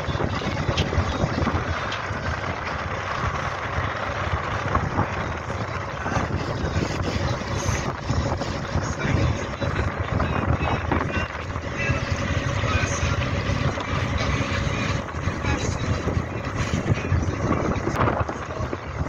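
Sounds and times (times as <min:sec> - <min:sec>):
boat engine rumble: 0:00.0 - 0:19.0
water noise: 0:00.0 - 0:19.0
wind on microphone: 0:00.0 - 0:19.0.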